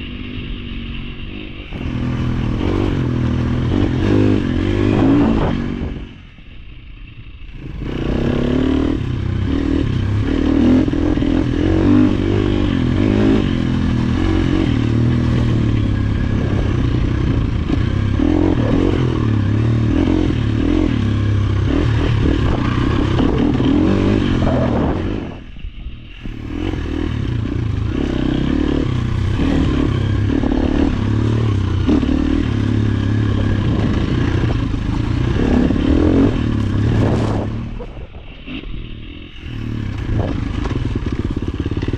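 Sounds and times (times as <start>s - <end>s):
dirt bike engine revving: 0.0s - 6.4s, 7.4s - 41.9s.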